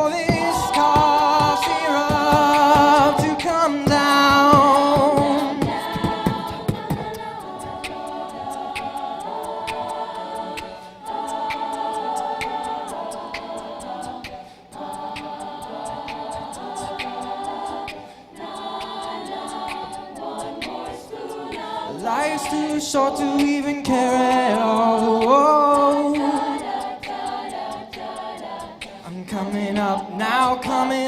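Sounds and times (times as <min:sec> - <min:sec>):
crisp ticking beat: 0:00.0 - 0:31.0
group singing sustained chords: 0:00.0 - 0:31.0.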